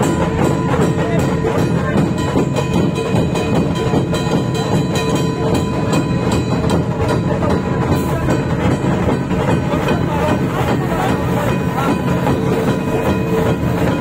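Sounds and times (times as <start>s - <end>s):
dhol drums beating: 0.0s - 14.0s
tasha drums beating: 0.0s - 14.0s.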